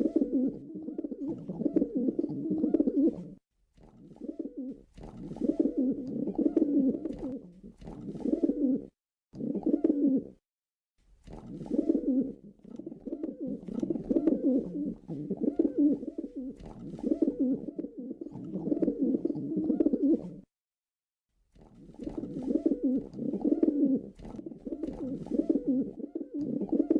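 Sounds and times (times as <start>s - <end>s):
pigeon cooing: 0.0s - 3.4s, 4.1s - 10.4s, 11.4s - 20.5s, 21.9s - 26.9s.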